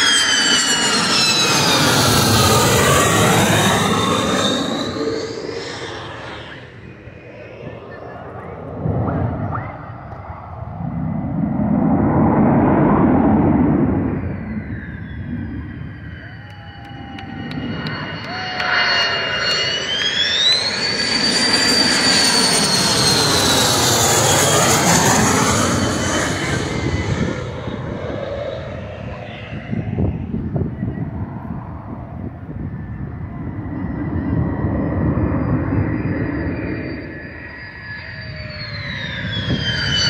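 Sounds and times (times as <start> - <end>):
jet rumble with high whine: 0.0 - 40.0.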